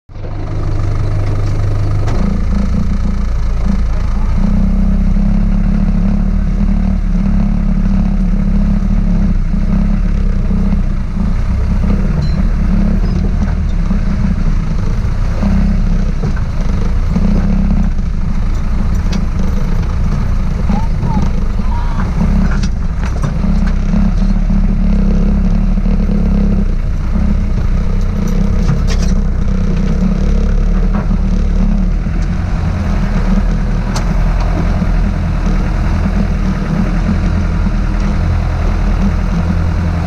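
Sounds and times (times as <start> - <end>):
off-road vehicle engine revving: 0.0 - 40.0.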